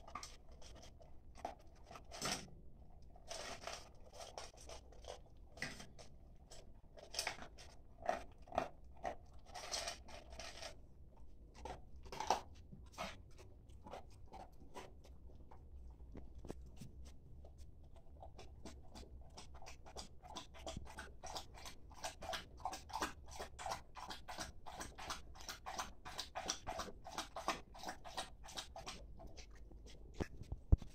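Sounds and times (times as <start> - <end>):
dog crunching dry food: 0.0 - 30.9.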